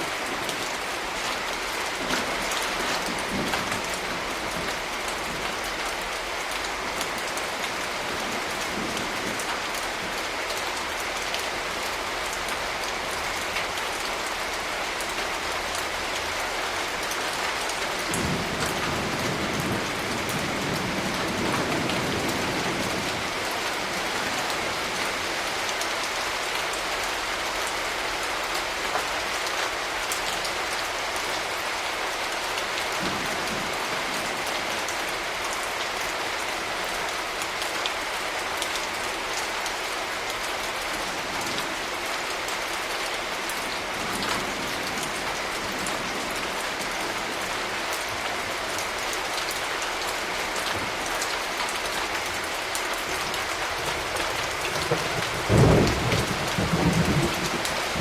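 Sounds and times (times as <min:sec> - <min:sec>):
raindrops striking a surface: 0:00.0 - 0:58.0
steady rain falling: 0:00.0 - 0:58.0.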